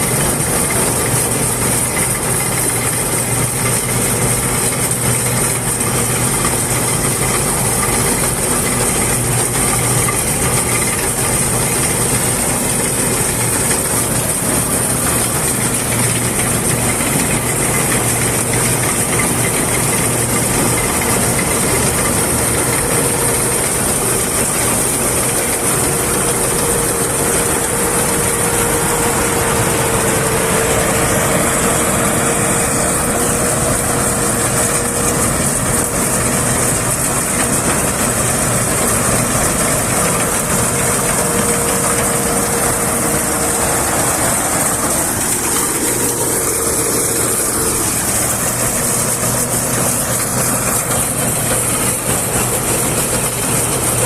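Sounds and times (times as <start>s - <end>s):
combine harvester engine hum: 0.0s - 54.0s.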